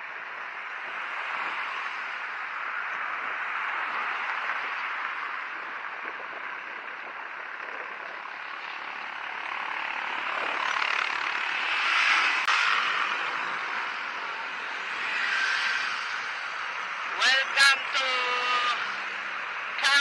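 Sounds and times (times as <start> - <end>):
wind and tyre noise: 0.0 - 20.0.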